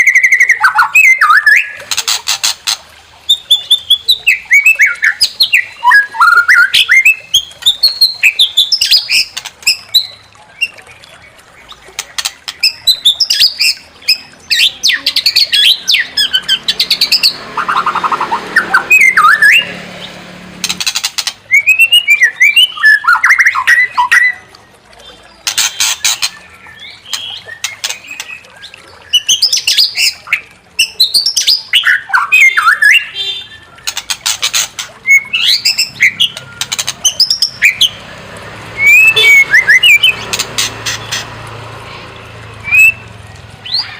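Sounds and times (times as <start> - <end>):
bird singing varied song: 0.0 - 2.4, 3.3 - 41.4, 42.0 - 43.9.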